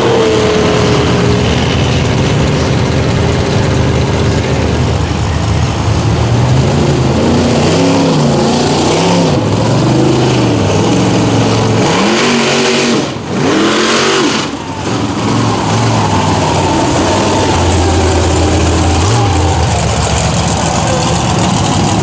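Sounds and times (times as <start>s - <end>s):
truck driving through mud: 0.0s - 22.0s
truck engines revving hard: 0.0s - 22.0s.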